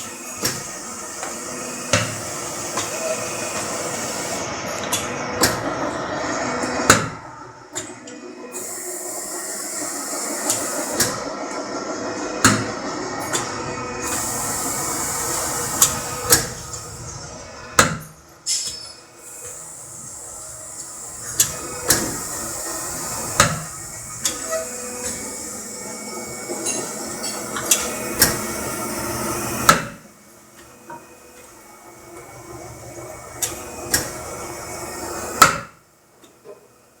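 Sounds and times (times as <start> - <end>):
hydraulic pump running: 0.0 - 37.0.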